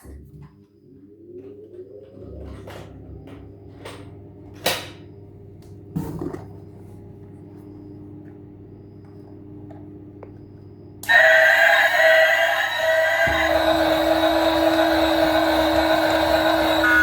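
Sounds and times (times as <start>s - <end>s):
steady low hum: 0.0s - 11.3s, 12.0s - 17.0s.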